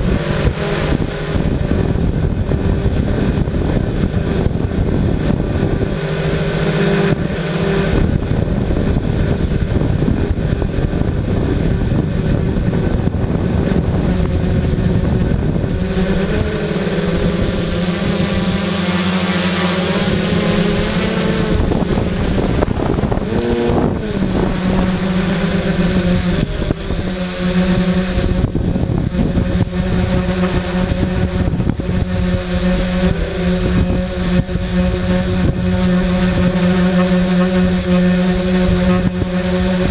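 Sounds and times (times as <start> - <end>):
drone propellers buzzing: 0.0 - 39.9
wind hiss: 0.0 - 39.9.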